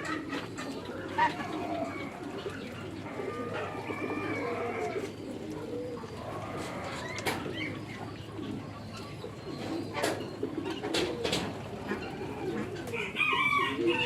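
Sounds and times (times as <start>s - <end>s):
poultry calling: 0.0s - 14.0s.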